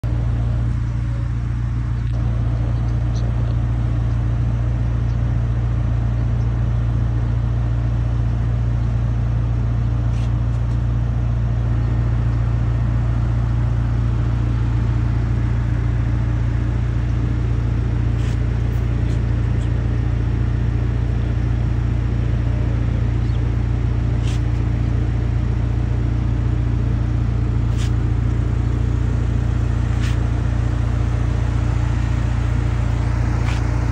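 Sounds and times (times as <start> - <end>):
engine idling hum: 0.0 - 33.9.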